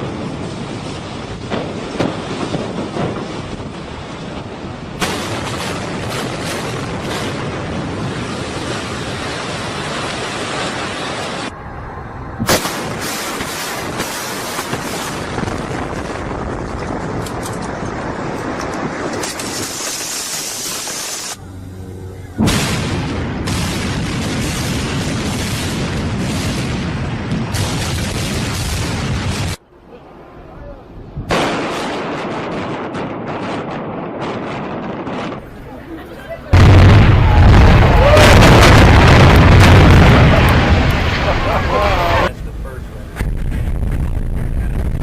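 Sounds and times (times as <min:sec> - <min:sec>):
loud explosion blast: 0:00.0 - 0:11.5, 0:12.4 - 0:21.4, 0:22.4 - 0:29.6, 0:31.2 - 0:35.5, 0:36.5 - 0:45.0
wind on microphone: 0:00.0 - 0:29.6, 0:30.4 - 0:31.4, 0:32.3 - 0:45.0
building collapsing rumble: 0:00.0 - 0:45.0.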